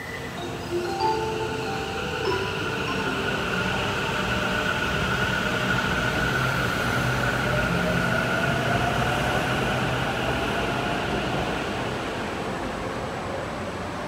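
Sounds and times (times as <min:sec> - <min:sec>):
metro train rolling: 0:00.0 - 0:14.0.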